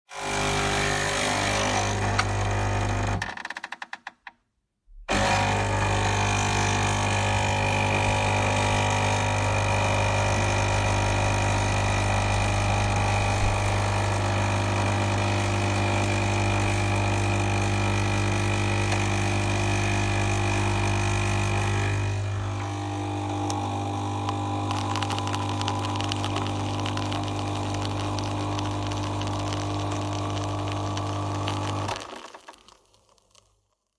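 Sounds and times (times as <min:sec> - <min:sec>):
coffee machine humming: 0:00.1 - 0:03.2, 0:05.1 - 0:32.8.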